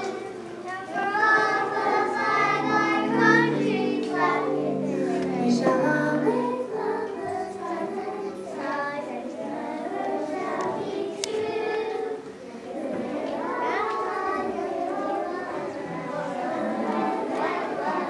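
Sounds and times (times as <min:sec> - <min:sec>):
music of long held notes: 0:00.0 - 0:18.0
young children singing: 0:00.0 - 0:18.0.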